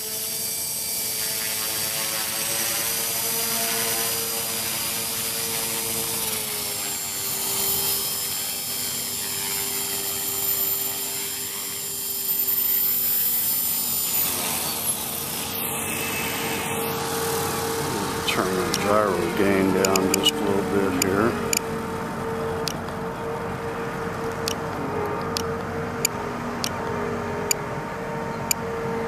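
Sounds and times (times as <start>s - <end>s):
rc helicopter rotor whine: 0.0s - 29.0s.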